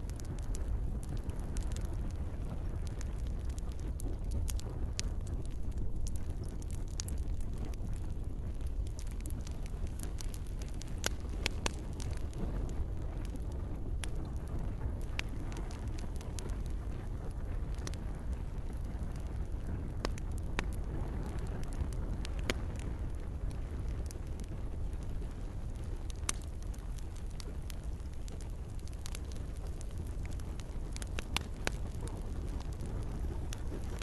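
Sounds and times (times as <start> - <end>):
campfire crackling and popping: 0.0 - 34.0
gentle rain: 0.0 - 34.0
low rumble of burning: 0.0 - 34.0.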